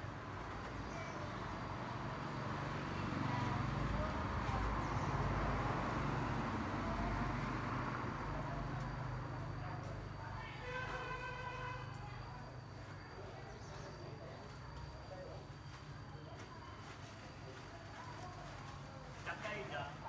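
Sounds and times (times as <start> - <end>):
faint voices: 0.0 - 20.0
street background noise: 0.0 - 20.0.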